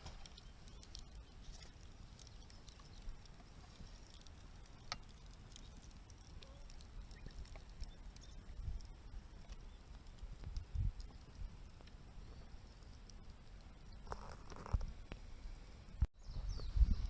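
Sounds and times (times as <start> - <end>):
campfire crackling and popping: 0.0 - 16.1.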